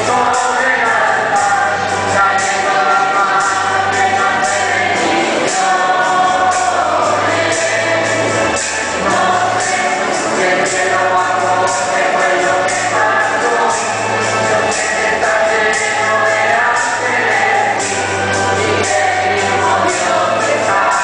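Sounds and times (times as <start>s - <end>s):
bass line: 0.0s - 21.0s
choir singing a hymn: 0.0s - 21.0s
light percussion steady beat: 0.0s - 21.0s.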